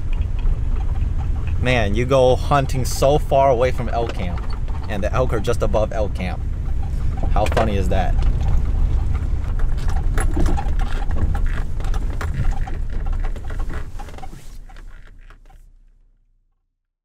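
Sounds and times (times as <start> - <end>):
cab knocks and rattles: 0.0 - 15.6
engine and tyres rumbling: 0.0 - 16.5.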